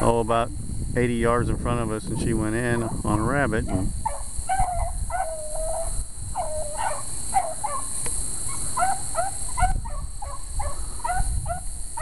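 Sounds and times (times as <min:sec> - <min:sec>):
hounds baying: 0:02.2 - 0:12.0.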